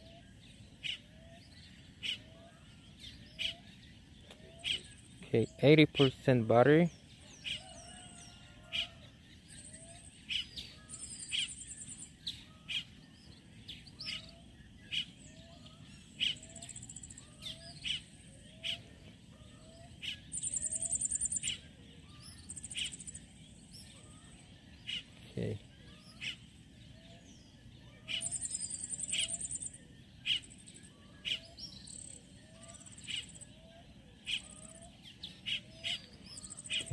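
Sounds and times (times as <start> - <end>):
bird trills: 0.0 - 36.9
birds chirping: 0.0 - 36.9.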